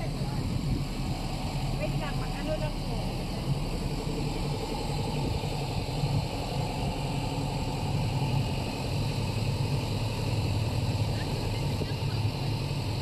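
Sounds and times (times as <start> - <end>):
motorboat engine running: 0.0 - 13.0
wind blowing: 0.0 - 13.0.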